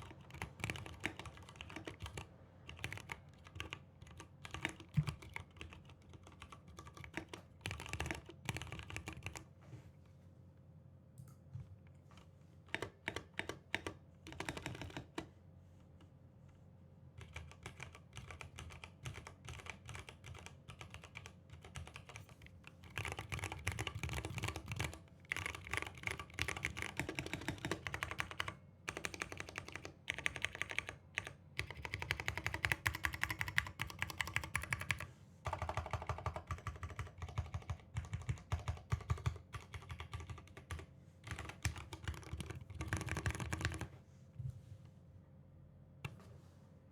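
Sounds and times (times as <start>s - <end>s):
mechanical keyboard typing: 0.0s - 9.5s, 12.7s - 15.3s, 17.2s - 43.9s.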